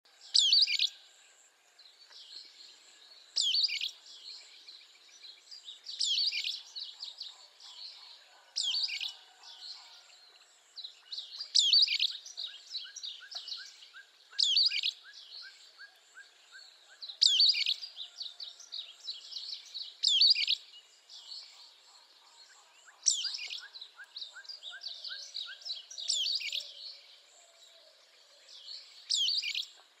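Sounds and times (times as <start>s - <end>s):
other birds singing: 0.1s - 1.1s, 1.9s - 30.0s.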